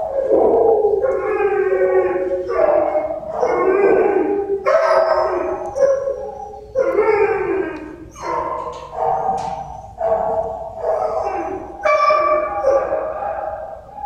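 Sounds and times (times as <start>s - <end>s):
dogs howling and barking: 0.0s - 14.0s.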